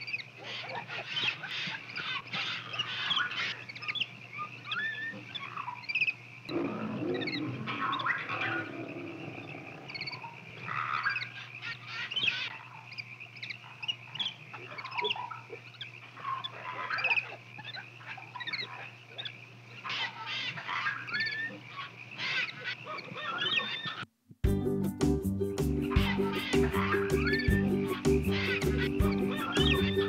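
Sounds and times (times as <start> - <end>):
animal squeaks and chirps: 0.0 - 6.2, 7.1 - 8.7, 9.9 - 24.0, 25.8 - 30.0.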